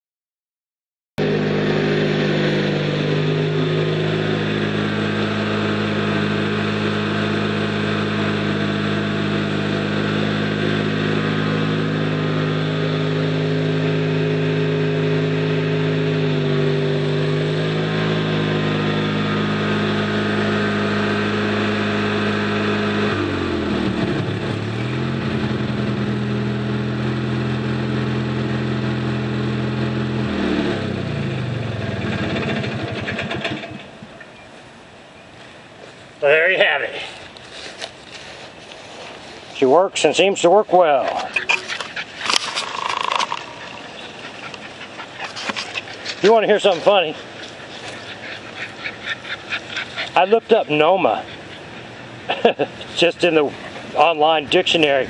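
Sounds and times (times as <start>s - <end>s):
riding lawn mower engine: 1.2s - 55.0s.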